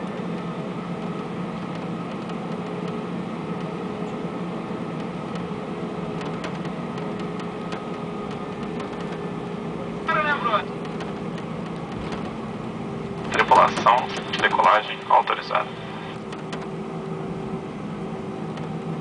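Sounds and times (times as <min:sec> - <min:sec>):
airplane cabin engine drone: 0:00.0 - 0:19.0.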